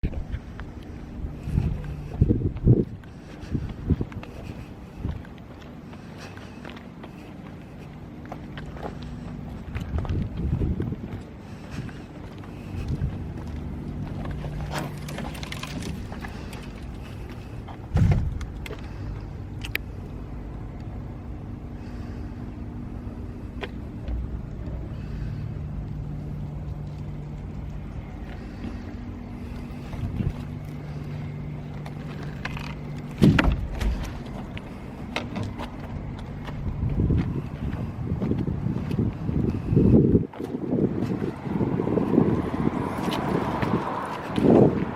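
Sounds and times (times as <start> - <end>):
wind buffeting microphone: 0.0 - 5.6, 9.0 - 19.8, 22.7 - 44.9
engine running steadily: 0.0 - 44.9.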